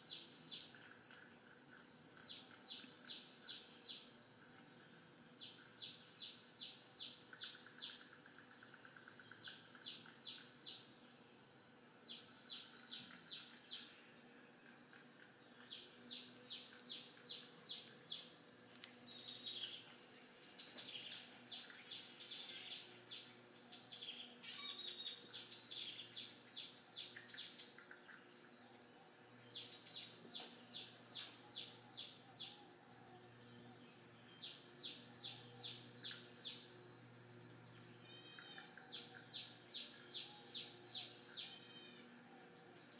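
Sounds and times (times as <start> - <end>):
songbird chirping: 0.0 - 42.9.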